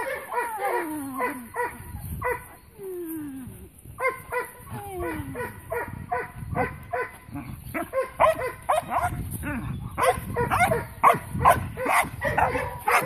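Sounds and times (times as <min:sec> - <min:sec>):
young dog barking: 0:00.0 - 0:02.5, 0:04.0 - 0:09.2, 0:10.0 - 0:13.0.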